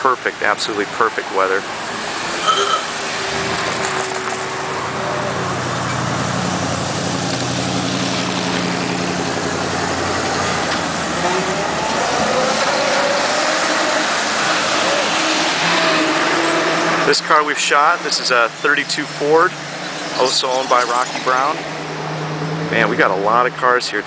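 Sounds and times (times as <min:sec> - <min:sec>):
old car engines humming: 0:00.0 - 0:24.0.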